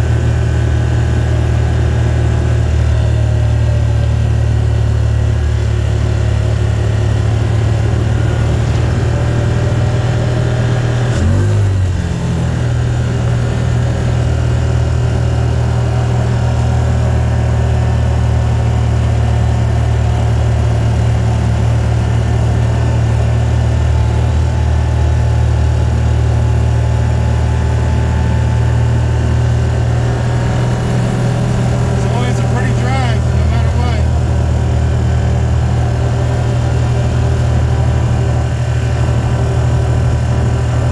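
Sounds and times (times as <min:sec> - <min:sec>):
car engine and road drone: 0:00.0 - 0:40.9.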